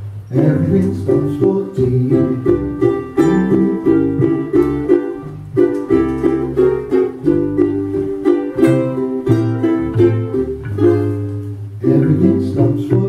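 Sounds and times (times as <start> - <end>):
plucked double bass: 0.0 - 13.0
ukulele chords: 0.0 - 13.0.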